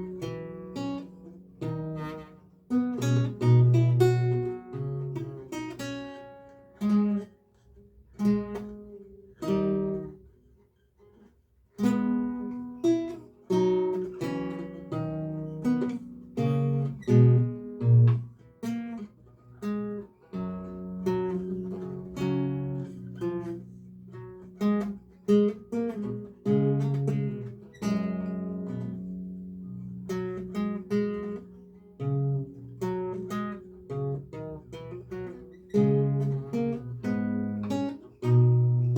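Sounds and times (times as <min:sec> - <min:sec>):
solo lute playing: 0:00.0 - 0:07.4, 0:08.1 - 0:10.4, 0:11.8 - 0:38.9.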